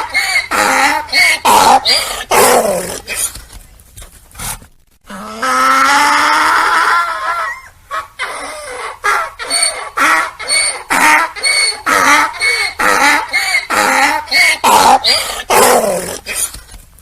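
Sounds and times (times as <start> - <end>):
donkey braying: 0.0 - 3.1, 5.1 - 16.3.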